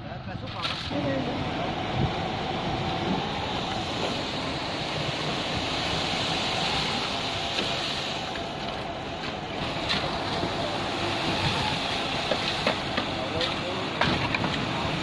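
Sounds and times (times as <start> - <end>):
concrete pump rushing: 0.4 - 15.0.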